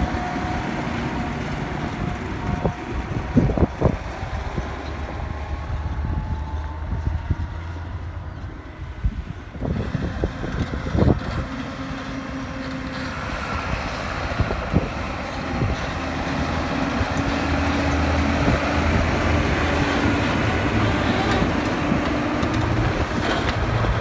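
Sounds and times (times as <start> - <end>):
tractor engine running: 0.0 - 24.0
tyre and trailer noise: 0.0 - 24.0.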